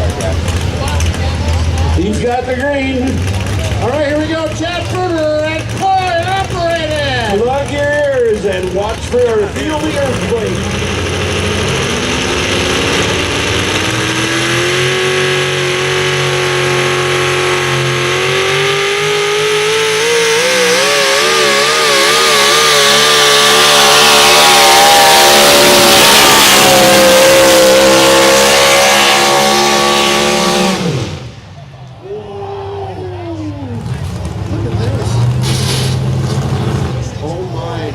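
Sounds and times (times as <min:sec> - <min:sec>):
tractor engine at full throttle: 0:00.0 - 0:32.0, 0:32.9 - 0:37.9.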